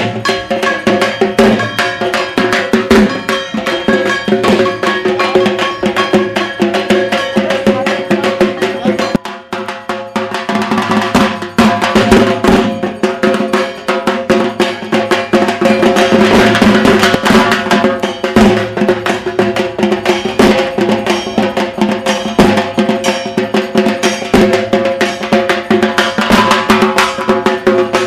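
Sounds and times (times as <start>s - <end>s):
music with driving drum beat: 0.0s - 28.0s.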